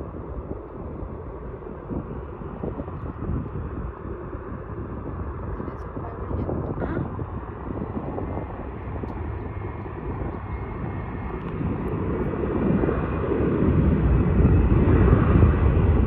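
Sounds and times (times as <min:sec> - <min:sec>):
distant jet airliner rumbling: 0:00.0 - 0:16.0.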